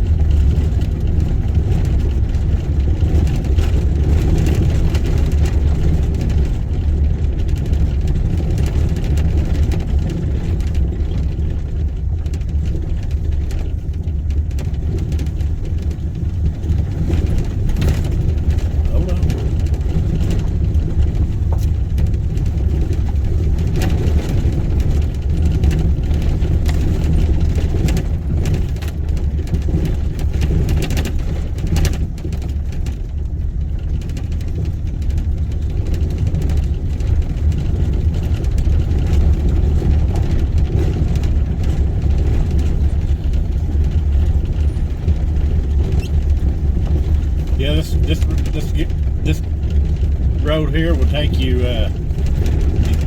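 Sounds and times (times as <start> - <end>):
knocks and rattles from bumps: 0.0 - 53.0
vehicle engine and tyres rumbling: 0.0 - 53.0.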